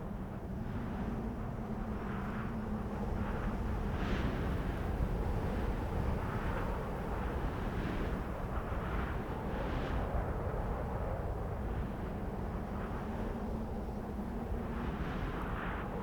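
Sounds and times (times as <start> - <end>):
wind blowing with deep rumble: 0.0 - 16.0.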